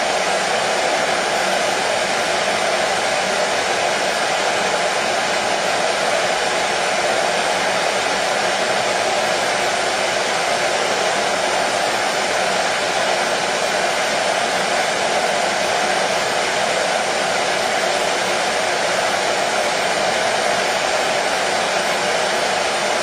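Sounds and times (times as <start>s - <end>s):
hair dryer blowing: 0.0s - 23.0s.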